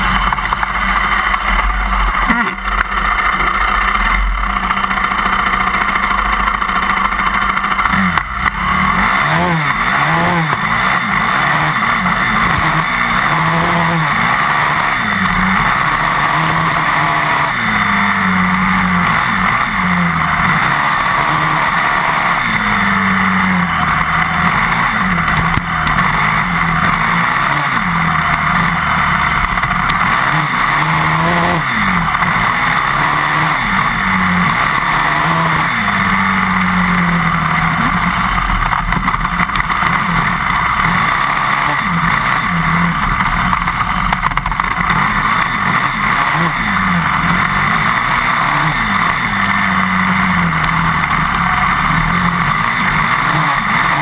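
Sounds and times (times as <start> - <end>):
dirt bike engine revving: 0.0 - 54.0
wind and tyre noise: 0.0 - 54.0.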